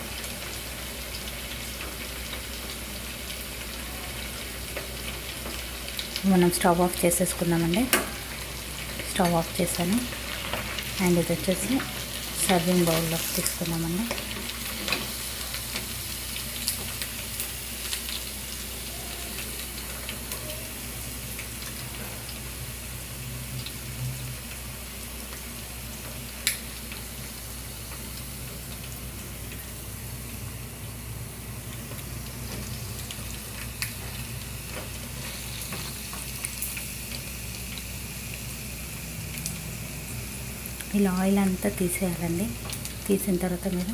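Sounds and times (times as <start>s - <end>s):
chicken sizzling in hot oil: 0.0s - 43.9s.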